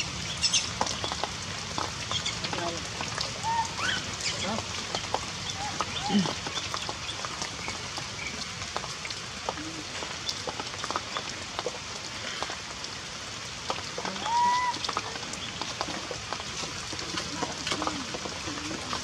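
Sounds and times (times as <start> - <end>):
heavy rain: 0.0 - 19.0
sharp drips: 0.2 - 19.0.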